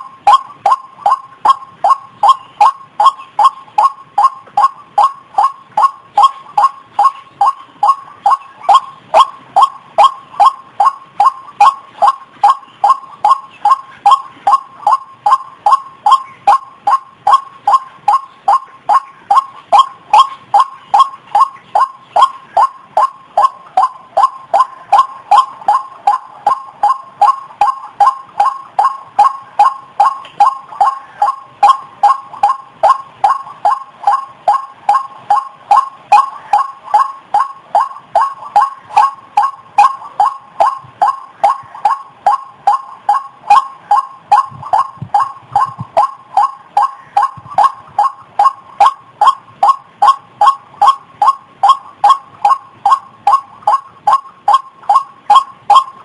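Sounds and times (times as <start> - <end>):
bird repeating loud call: 0.0 - 56.0.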